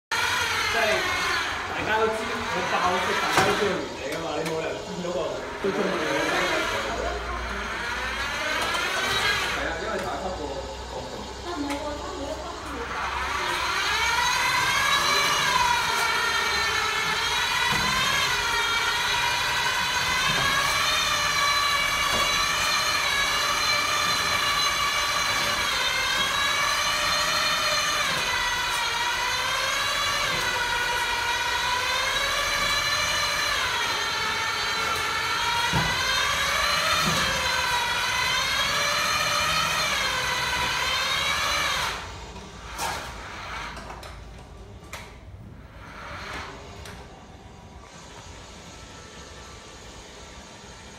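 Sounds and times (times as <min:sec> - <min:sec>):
electric motor whining: 0:00.1 - 0:43.8.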